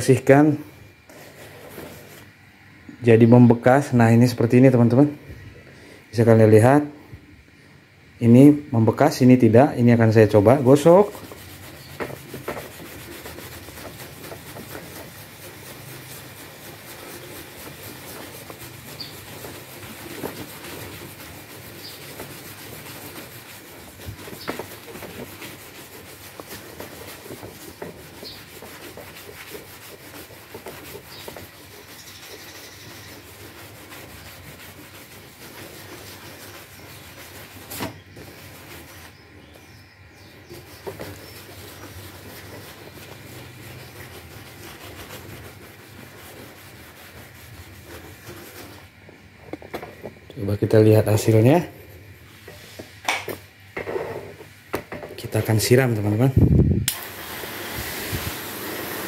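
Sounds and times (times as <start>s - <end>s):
brush scrubbing wet paint: 0.0s - 2.4s, 8.2s - 53.0s, 55.2s - 56.6s, 57.2s - 59.0s.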